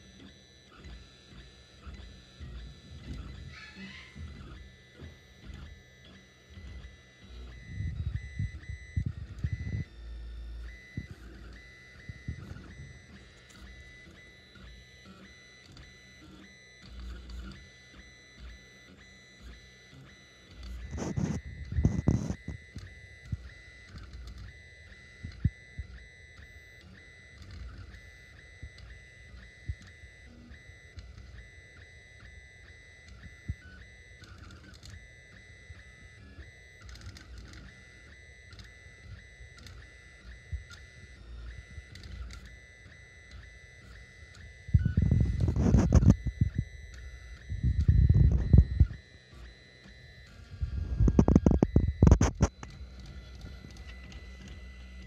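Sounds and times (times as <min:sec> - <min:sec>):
stepper motors whining: 0:00.0 - 0:55.0.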